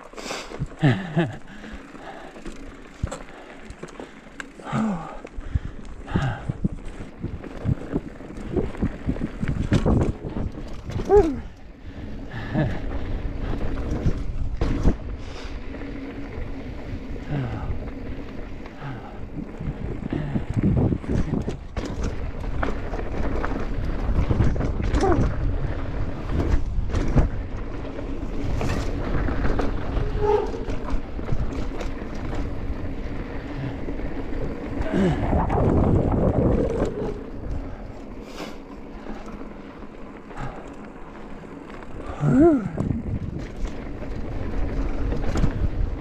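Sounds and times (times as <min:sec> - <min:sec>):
mountain bike rattling and knocking: 0:00.1 - 0:46.0
wind buffeting microphone: 0:05.4 - 0:38.1, 0:41.8 - 0:46.0.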